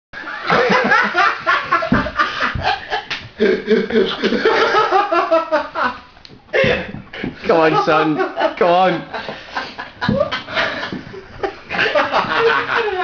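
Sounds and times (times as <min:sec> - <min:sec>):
people laughing: 0:00.2 - 0:13.0.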